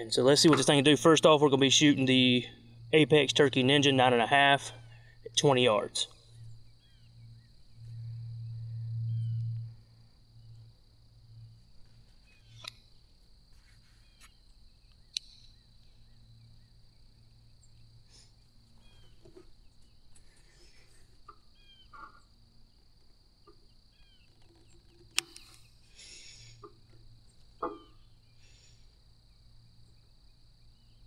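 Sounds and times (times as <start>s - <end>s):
insects droning: 0.0s - 31.0s
bird chirps: 1.5s - 10.7s, 11.8s - 22.9s, 23.5s - 31.0s.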